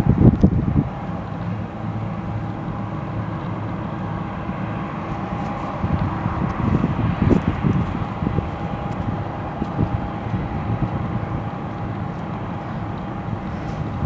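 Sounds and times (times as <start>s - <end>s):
faint steady whine: 0.0s - 14.0s
jet engines rumbling: 0.0s - 14.0s
wind buffeting microphone: 0.0s - 14.0s.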